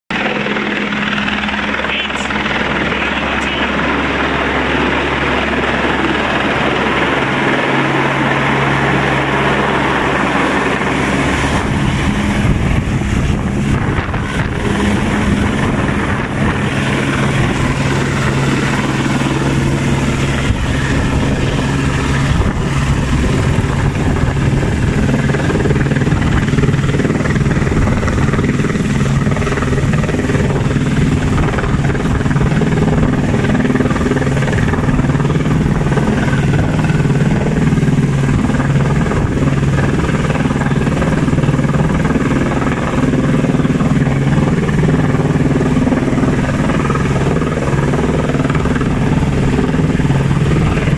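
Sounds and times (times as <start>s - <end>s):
helicopter flying overhead: 0.1s - 50.9s.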